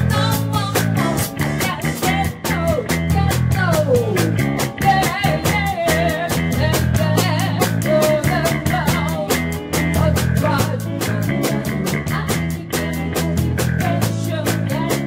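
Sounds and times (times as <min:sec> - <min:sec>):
bass guitar: 0:00.0 - 0:15.0
electric guitar: 0:00.0 - 0:15.0
steady drum beat: 0:00.0 - 0:15.0
woman singing into a microphone: 0:00.0 - 0:15.0.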